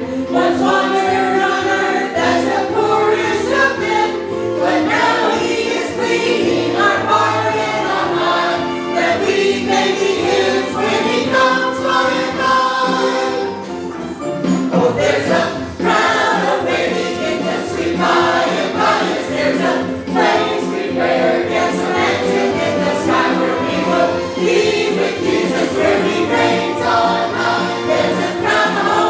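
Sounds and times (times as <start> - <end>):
congregation singing a hymn: 0.0 - 29.0
instrumental accompaniment: 0.0 - 29.0.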